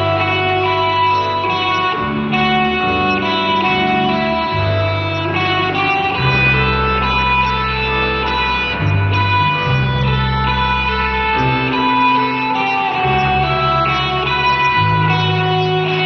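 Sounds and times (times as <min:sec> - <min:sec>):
guitars and violins ensemble: 0:00.0 - 0:16.0
low bass line: 0:00.0 - 0:16.0.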